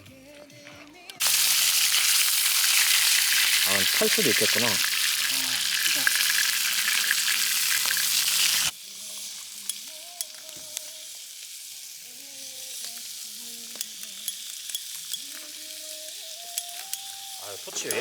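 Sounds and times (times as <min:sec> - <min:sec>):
food sizzling on a grill: 0:01.2 - 0:18.0.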